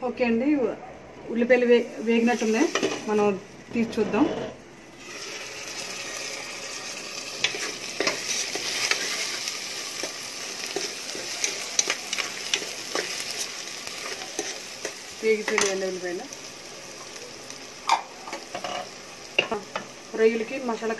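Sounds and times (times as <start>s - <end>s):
onions sizzling in hot oil: 1.8s - 3.5s, 4.8s - 20.9s.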